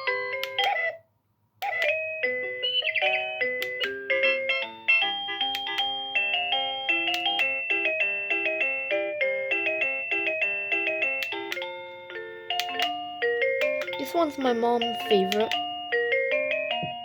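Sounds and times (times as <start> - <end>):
electronic doorbell chime melody: 0.0 - 1.0, 1.6 - 17.0.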